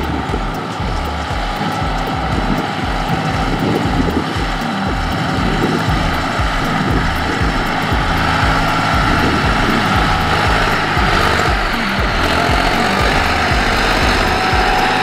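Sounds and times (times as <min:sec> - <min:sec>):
tractor engine chugging under load: 0:00.0 - 0:15.0.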